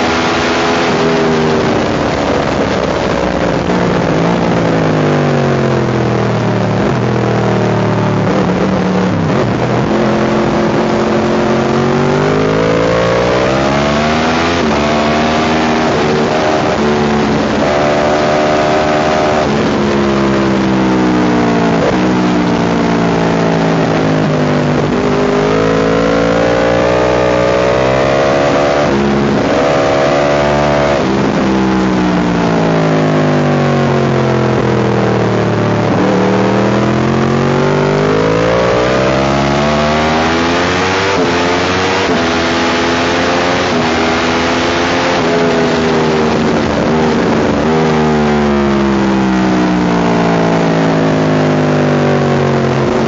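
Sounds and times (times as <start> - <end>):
wind noise on microphone: 0.0 - 42.5, 45.1 - 50.9
motorcycle engine revving: 0.0 - 53.0.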